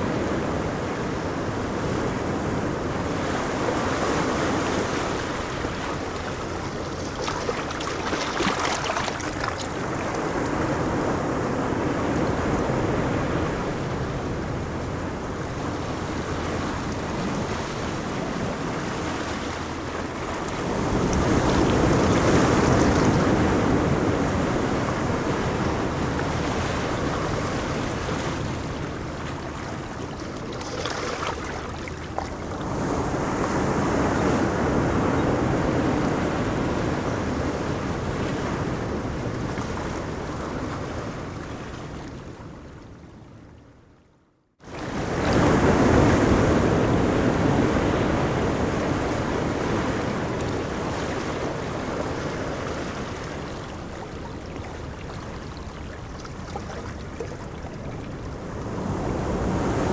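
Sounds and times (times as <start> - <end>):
ocean surf washing onto beach: 0.0 - 42.2, 44.7 - 59.9.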